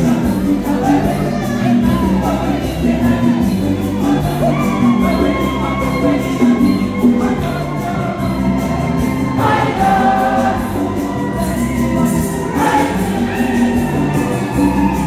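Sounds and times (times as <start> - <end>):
choir singing gospel: 0.0 - 15.0.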